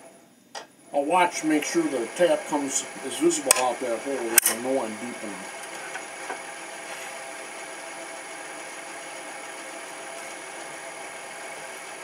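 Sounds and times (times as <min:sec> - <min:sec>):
drill press motor hum with whine: 0:00.0 - 0:12.0.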